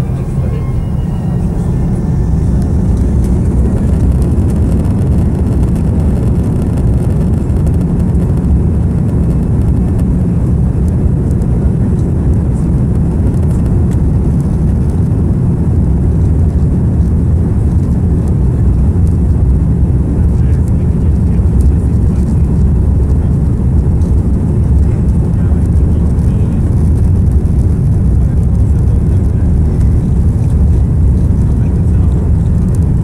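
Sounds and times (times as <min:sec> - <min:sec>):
aircraft engines rumbling in cabin: 0:00.0 - 0:33.0.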